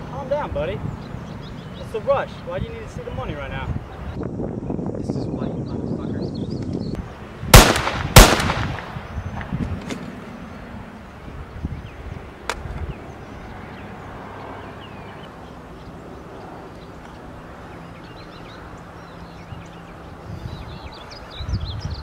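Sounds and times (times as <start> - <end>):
distant birds chirping: 0.0 - 22.0.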